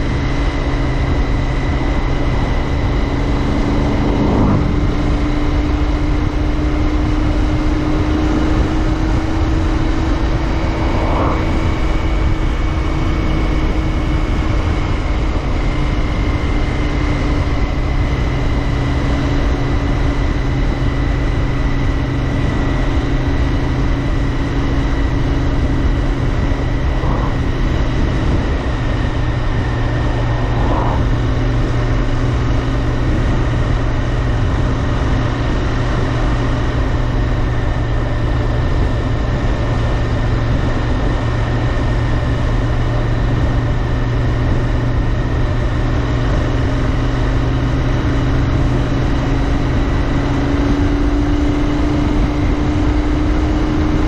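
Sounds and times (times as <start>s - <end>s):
motorcycle engine cruising: 0.0s - 54.0s
wind and road rush: 0.0s - 54.0s.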